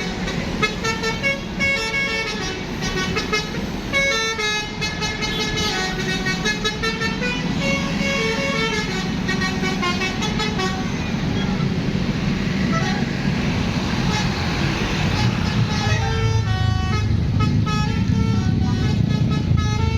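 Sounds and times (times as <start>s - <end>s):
multi-tone air horn tune: 0.0s - 11.8s, 15.2s - 19.9s.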